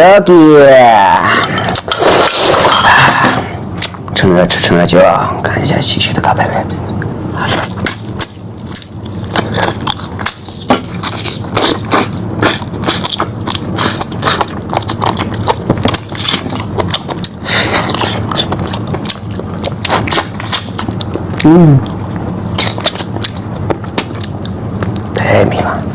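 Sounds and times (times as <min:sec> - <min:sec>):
person chewing meat: 0:01.3 - 0:04.1, 0:07.4 - 0:25.9.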